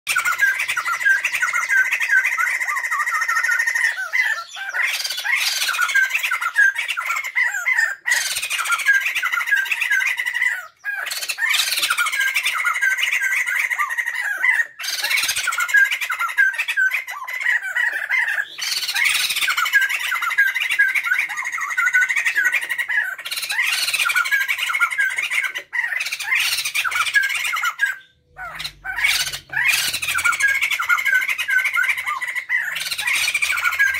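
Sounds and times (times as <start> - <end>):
laughingthrushes calling in chorus: 0.1 - 33.9.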